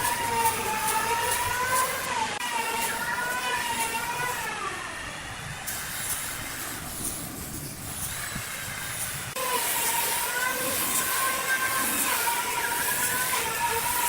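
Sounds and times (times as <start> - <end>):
hiss: 0.0 - 14.0
power tool motor whining: 0.0 - 14.0.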